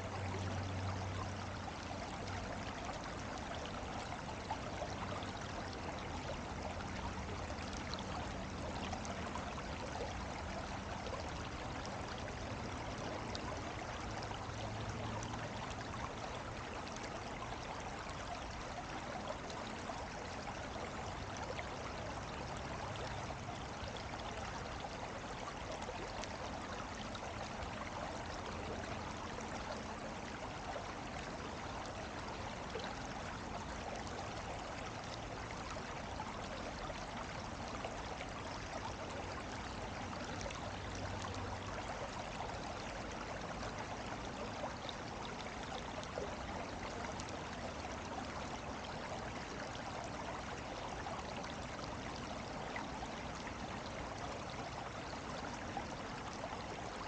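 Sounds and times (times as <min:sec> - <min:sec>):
water trickling and flowing: 0:00.0 - 0:57.0.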